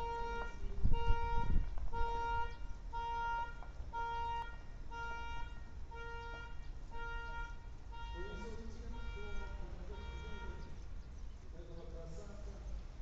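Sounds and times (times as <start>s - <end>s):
truck reversing beeper: 0.0s - 11.0s.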